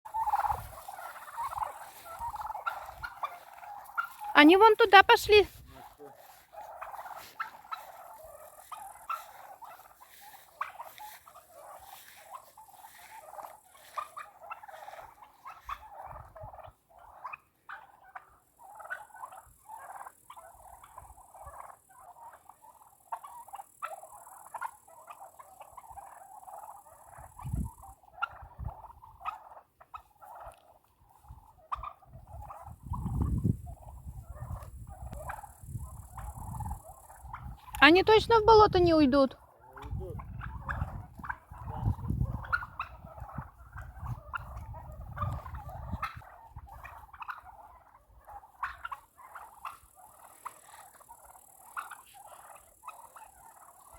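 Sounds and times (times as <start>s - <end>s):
turkeys calling: 0.0s - 53.9s.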